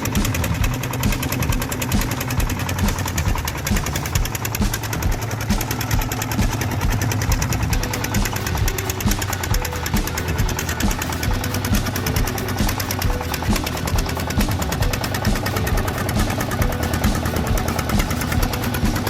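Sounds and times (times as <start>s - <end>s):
farm vehicle engine chugging: 0.0s - 19.0s.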